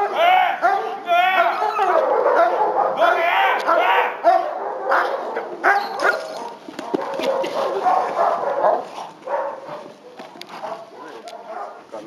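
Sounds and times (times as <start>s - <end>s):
dog barking: 0.0s - 12.0s.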